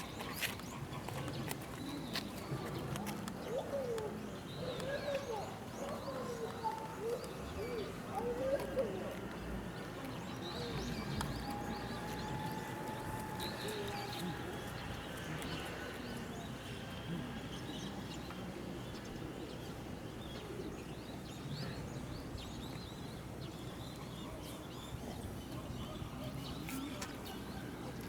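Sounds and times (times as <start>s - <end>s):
faint distant voices: 0.0s - 28.0s.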